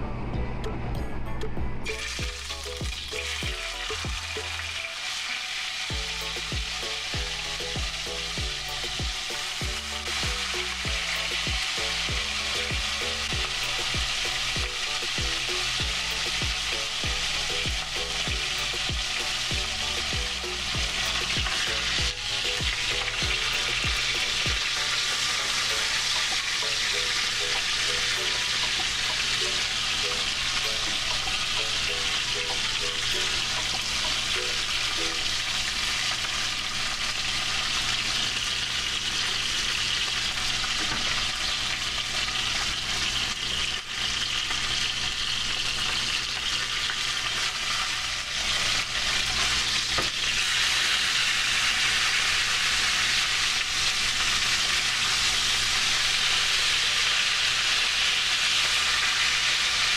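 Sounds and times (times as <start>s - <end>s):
fish frying in hot oil: 1.9s - 59.9s.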